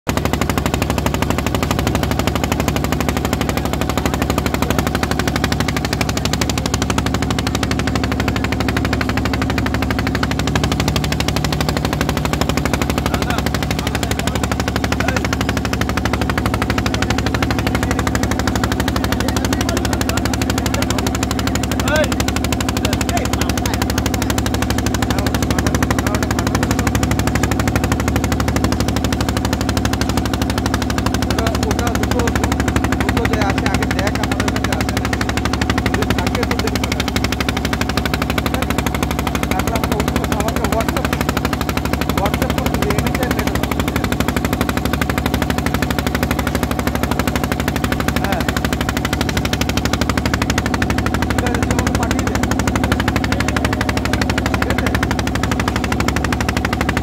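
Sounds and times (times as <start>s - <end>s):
boat diesel engine chugging: 0.0s - 57.0s.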